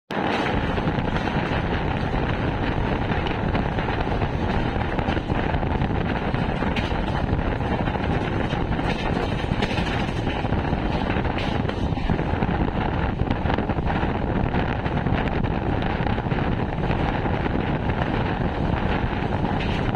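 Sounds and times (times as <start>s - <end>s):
train wheels rumbling on rails: 0.1s - 19.9s
wind buffeting microphone: 0.1s - 19.9s.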